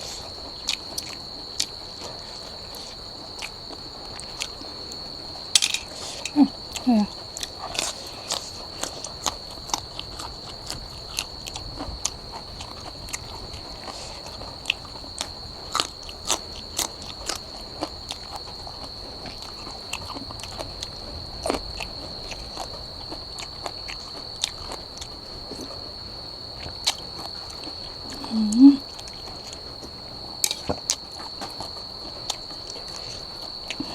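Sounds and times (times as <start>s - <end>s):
person chewing and crunching: 0.0s - 25.9s, 26.5s - 33.9s
steady high-pitched whine: 0.0s - 33.9s.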